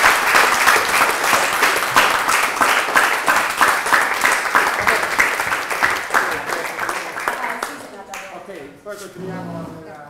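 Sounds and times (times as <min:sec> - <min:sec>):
audience applauding in rhythm: 0:00.0 - 0:08.3.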